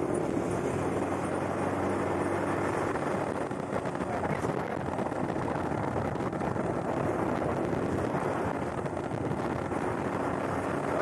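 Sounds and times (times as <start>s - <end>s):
vehicle driving on road: 0.0s - 11.0s
wind on microphone: 0.0s - 11.0s.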